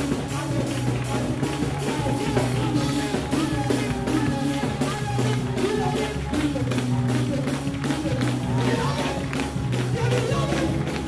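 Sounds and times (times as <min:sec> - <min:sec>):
band playing gospel music: 0:00.0 - 0:11.0
congregation clapping: 0:00.0 - 0:11.0.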